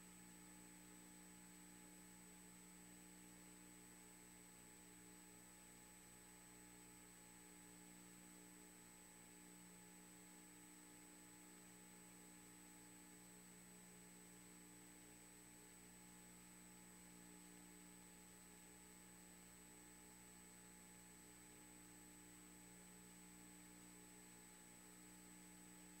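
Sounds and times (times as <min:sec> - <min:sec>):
electrical hum with high whine: 0:00.0 - 0:26.0.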